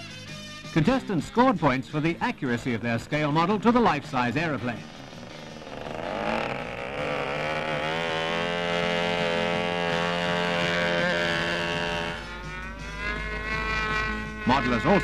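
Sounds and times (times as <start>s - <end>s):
model aircraft engine buzzing: 0.0s - 15.0s.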